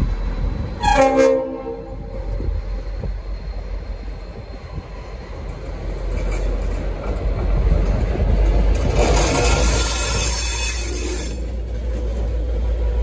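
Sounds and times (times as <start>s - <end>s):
diesel locomotive engine: 0.0s - 13.0s.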